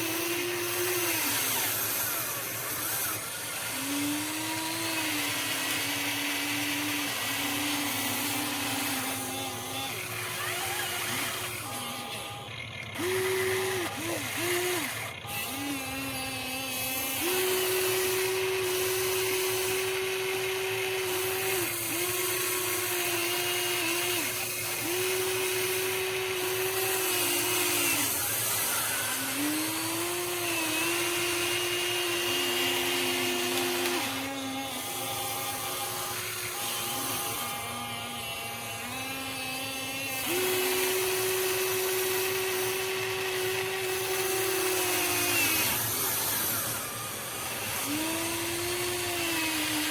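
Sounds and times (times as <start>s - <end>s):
electric motors whining: 0.0s - 49.9s.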